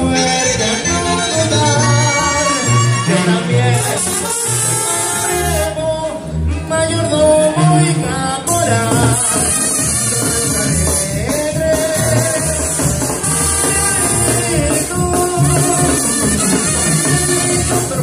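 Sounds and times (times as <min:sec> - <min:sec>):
latin music with drum beat: 0:00.0 - 0:18.0.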